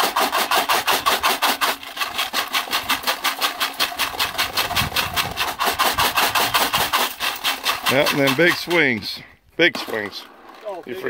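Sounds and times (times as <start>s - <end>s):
gravel rattling in metal box: 0.0s - 11.0s.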